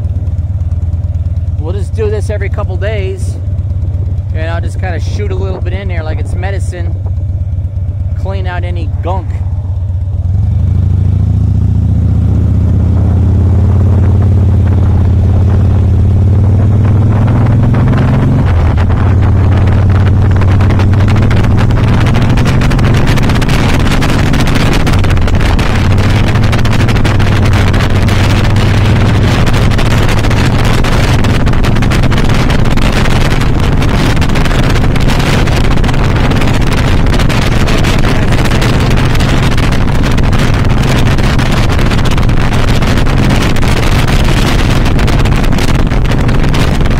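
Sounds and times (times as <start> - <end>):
motorcycle engine riding: 0.0 - 46.9
wind noise on microphone: 4.4 - 7.2, 10.3 - 46.9.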